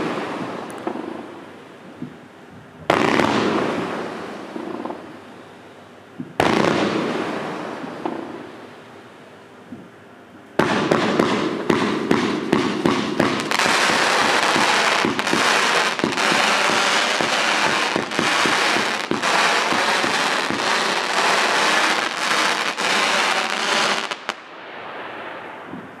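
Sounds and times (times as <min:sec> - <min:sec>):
fireworks firing: 0:00.0 - 0:02.2, 0:02.9 - 0:05.2, 0:06.2 - 0:08.7, 0:10.6 - 0:26.0.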